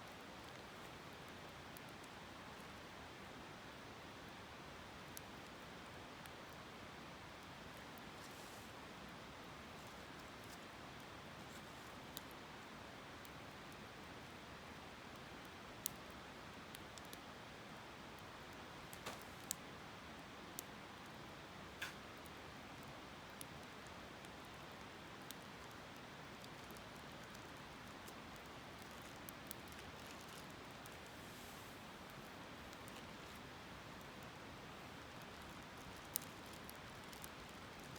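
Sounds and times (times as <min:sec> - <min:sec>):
campfire crackling and popping: 0:03.7 - 0:37.9.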